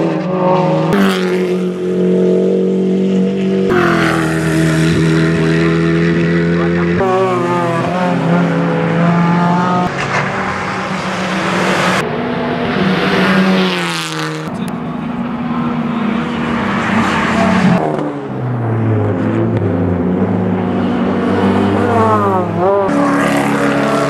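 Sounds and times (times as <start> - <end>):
racing car engines passing by: 0.0 - 24.0.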